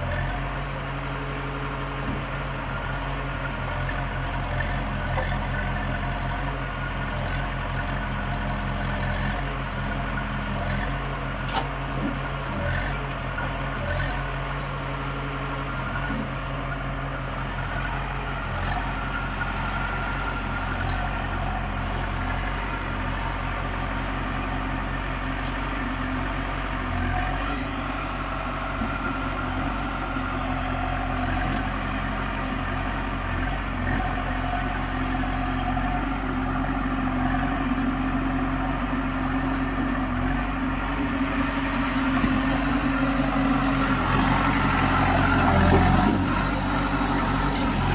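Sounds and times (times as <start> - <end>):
diesel engine chugging: 0.0 - 47.9.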